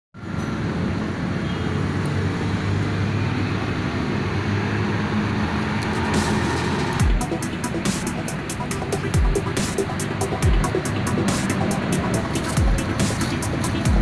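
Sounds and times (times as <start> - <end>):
motor vehicles rumbling: 0.2 - 14.0.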